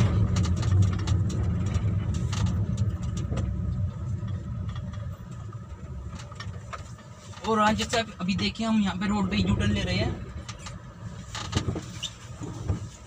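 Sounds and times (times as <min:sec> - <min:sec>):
road noise inside car: 0:00.0 - 0:13.0.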